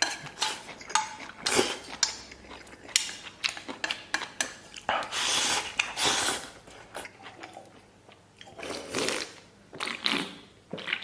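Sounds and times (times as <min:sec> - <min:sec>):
person chewing noisily: 0:00.0 - 0:11.0.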